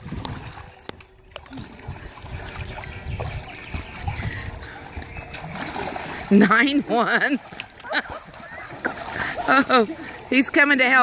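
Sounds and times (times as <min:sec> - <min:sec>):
pool water lapping: 0:00.0 - 0:11.0.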